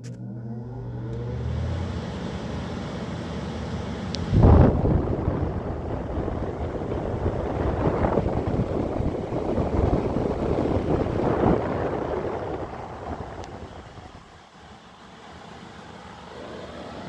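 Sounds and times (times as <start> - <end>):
air conditioner air rushing: 0.0 - 17.0.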